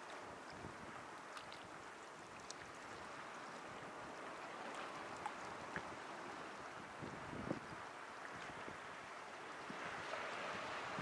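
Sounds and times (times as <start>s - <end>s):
faint splashes and drips: 0.0s - 11.0s
small waves washing ashore: 0.0s - 11.0s.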